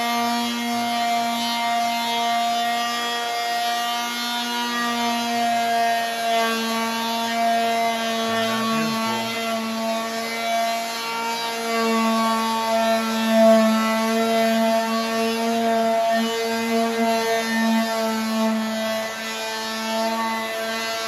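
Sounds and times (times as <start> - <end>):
orbital sander sanding wood: 0.0 - 21.0.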